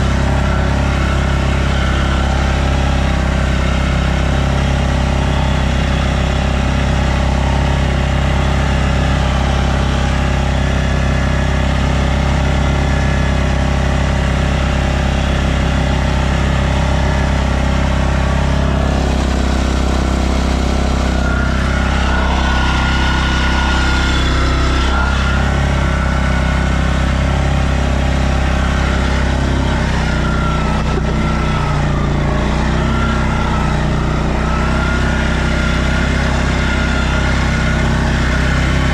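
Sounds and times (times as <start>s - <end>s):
quad bike engine running: 0.0s - 38.9s
thin whine: 0.0s - 38.9s.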